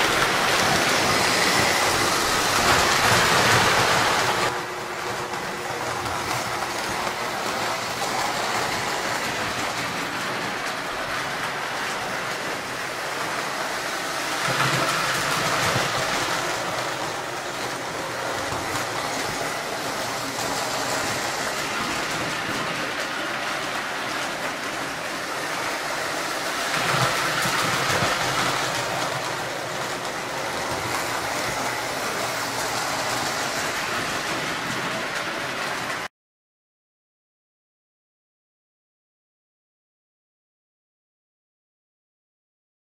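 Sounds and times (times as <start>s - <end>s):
toy train clattering on metal track: 0.0s - 4.5s, 5.1s - 36.1s.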